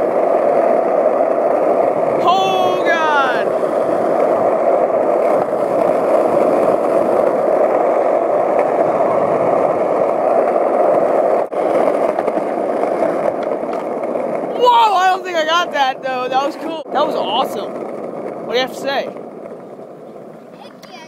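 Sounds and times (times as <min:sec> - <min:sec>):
skateboard wheels rolling on pavement: 0:00.0 - 0:21.0.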